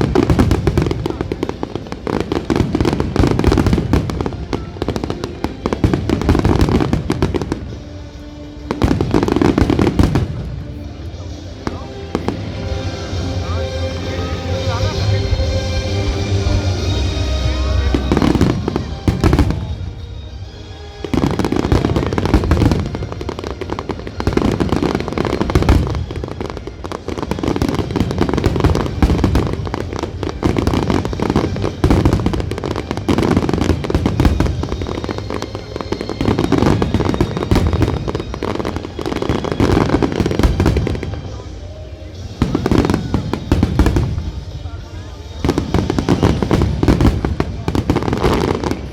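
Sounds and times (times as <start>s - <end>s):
fireworks bursts and booms: 0.0s - 48.9s
music: 0.0s - 48.9s.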